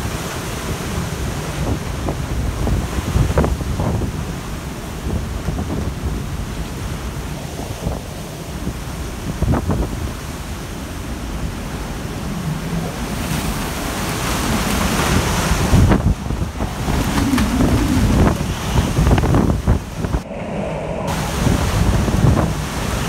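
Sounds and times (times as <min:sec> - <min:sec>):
hurricane wind gusts: 0:00.0 - 0:23.0
wind buffeting microphone: 0:00.0 - 0:23.0.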